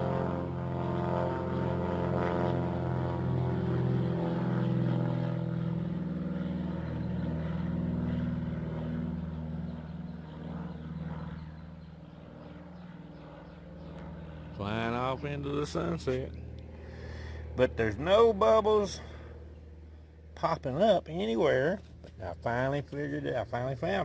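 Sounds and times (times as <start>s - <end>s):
airplane engines droning: 0.0s - 24.0s.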